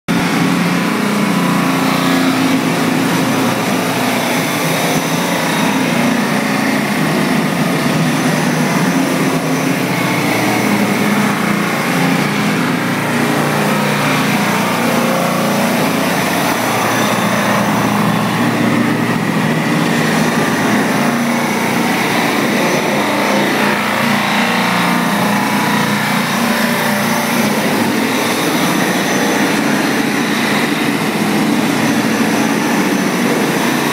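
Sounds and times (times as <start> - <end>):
coolant water spraying: 0.1 - 33.9
grinding machine motors humming: 0.1 - 33.9.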